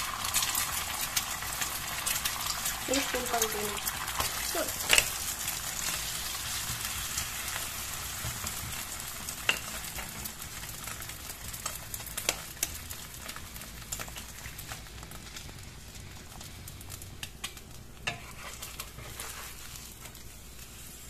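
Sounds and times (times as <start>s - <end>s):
egg sizzling in hot oil: 0.0s - 21.0s.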